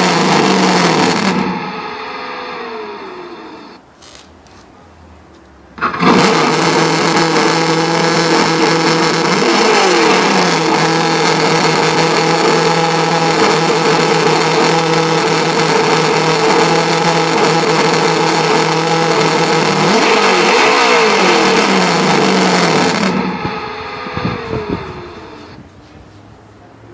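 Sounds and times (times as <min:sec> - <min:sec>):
simulated engine from speaker: 0:00.0 - 0:03.8, 0:05.8 - 0:26.9.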